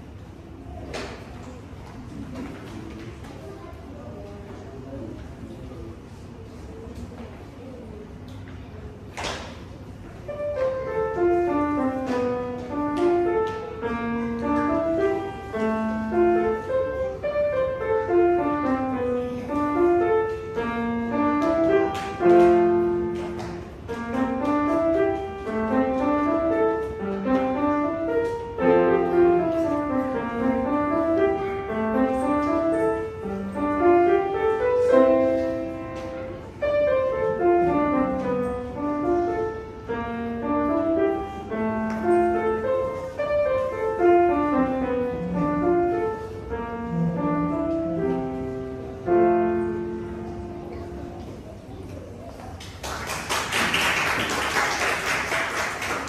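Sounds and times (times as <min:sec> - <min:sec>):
solo grand piano piece: 0:09.2 - 0:56.0.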